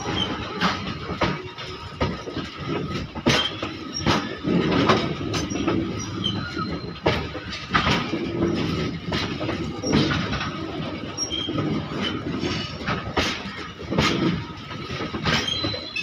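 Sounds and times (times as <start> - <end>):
freight train rumbling past: 0.0 - 16.0
wheels clacking over rail joints: 0.0 - 16.0.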